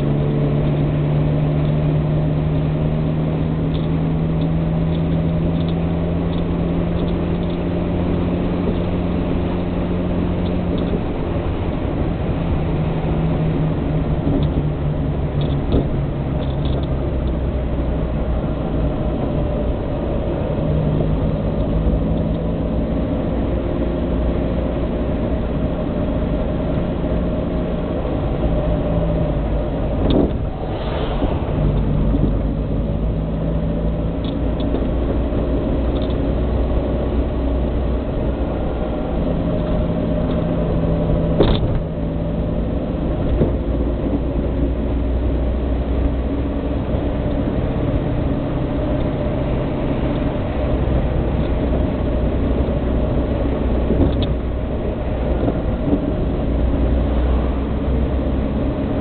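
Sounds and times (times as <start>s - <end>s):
car engine from inside cabin: 0.0s - 59.0s
road noise: 0.0s - 59.0s.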